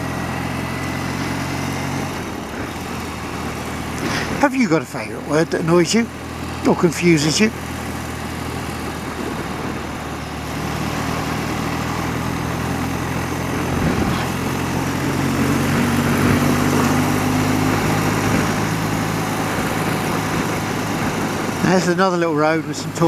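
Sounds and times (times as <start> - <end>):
motorcycle engine running: 0.0 - 23.0
wind and road rush: 0.0 - 23.0.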